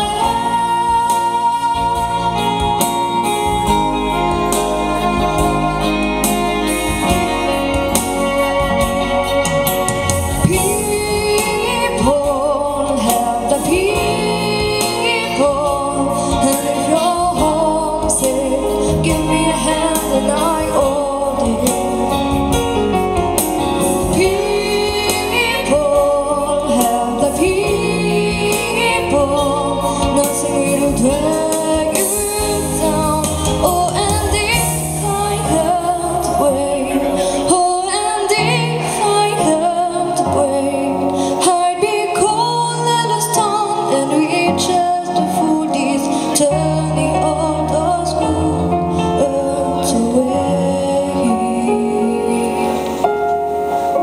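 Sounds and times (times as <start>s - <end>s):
instrumental accompaniment: 0.0s - 54.0s
woman singing into microphone: 0.0s - 54.0s.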